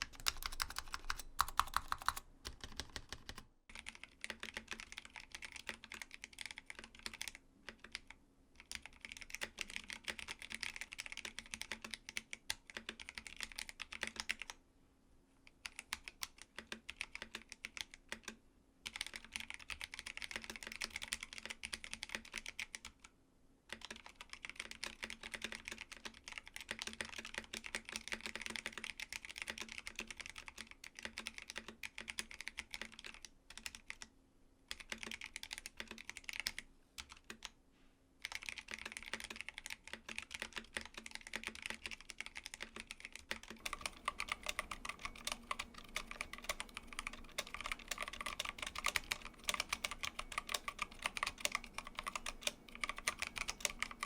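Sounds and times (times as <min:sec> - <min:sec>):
mechanical keyboard typing: 0:00.0 - 0:14.6, 0:15.6 - 0:23.1, 0:23.7 - 0:34.1, 0:34.7 - 0:37.5, 0:38.2 - 0:54.0.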